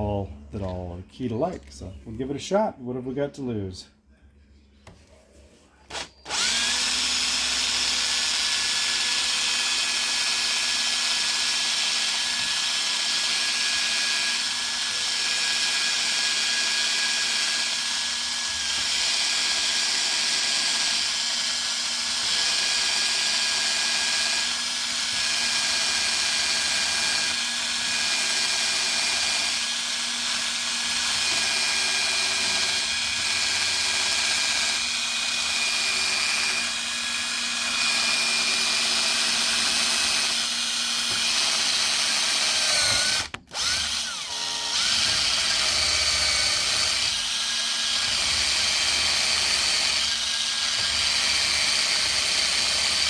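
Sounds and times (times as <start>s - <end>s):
electric drill drilling metal: 5.9s - 53.0s.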